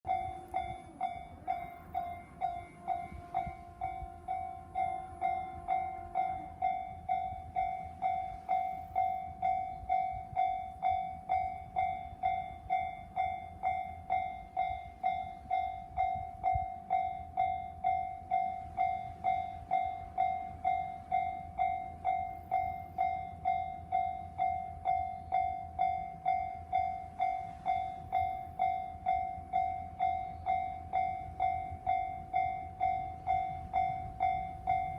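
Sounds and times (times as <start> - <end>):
held tone: 0.1 - 34.9.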